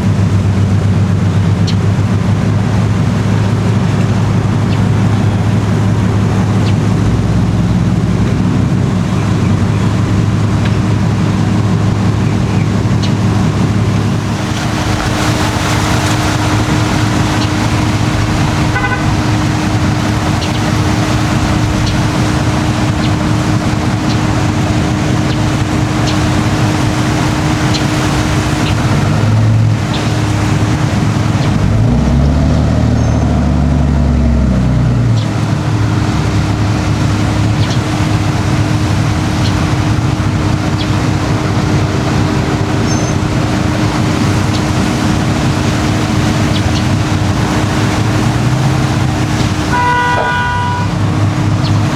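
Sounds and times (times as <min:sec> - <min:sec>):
boat engines running: 0:00.0 - 0:51.9
deep engine revving: 0:00.0 - 0:51.9.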